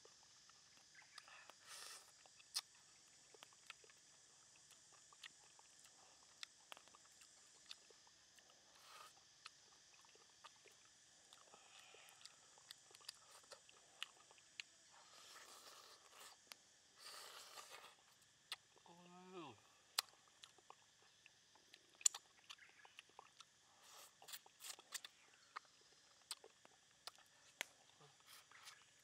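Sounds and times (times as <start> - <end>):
chewing with mouth clicks: 0.0 - 18.8, 19.9 - 29.0.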